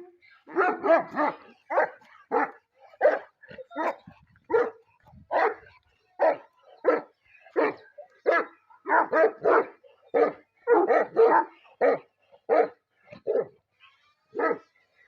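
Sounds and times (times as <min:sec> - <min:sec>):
dog barking: 0:00.5 - 0:13.6, 0:14.3 - 0:14.6.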